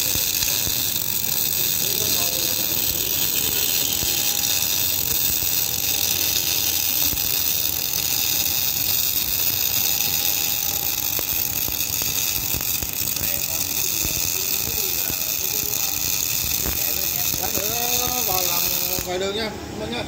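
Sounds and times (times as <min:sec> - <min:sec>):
welding arc crackling: 0:00.0 - 0:19.5.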